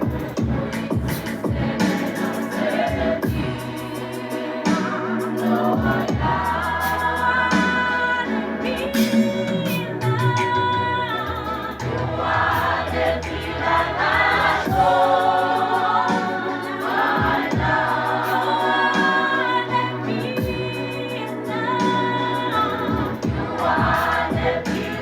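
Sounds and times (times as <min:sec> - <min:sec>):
youth choir singing gospel: 0:00.0 - 0:25.0.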